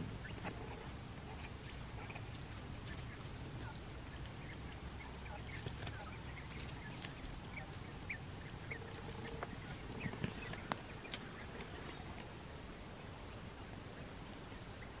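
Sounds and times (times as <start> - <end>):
quail peeping: 0.0 - 15.0.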